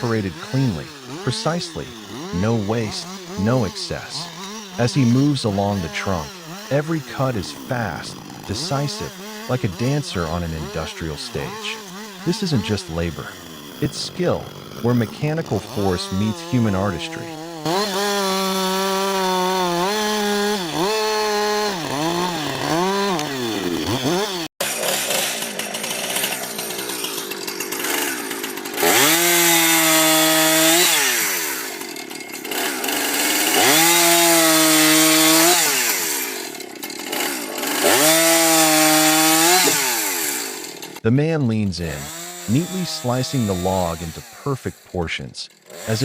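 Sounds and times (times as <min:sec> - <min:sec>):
chainsaw cutting log: 0:00.0 - 0:41.0, 0:41.6 - 0:46.0.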